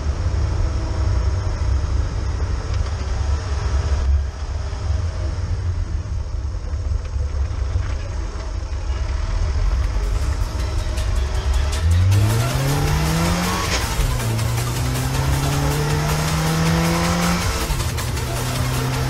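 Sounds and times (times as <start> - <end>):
car driving low rumble: 0.0 - 19.0.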